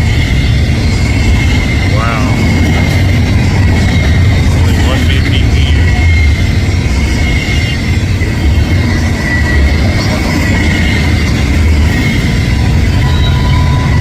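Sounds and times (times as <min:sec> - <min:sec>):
freight train rumbling past: 0:00.0 - 0:14.0
high ringing wheels on rail: 0:00.0 - 0:14.0.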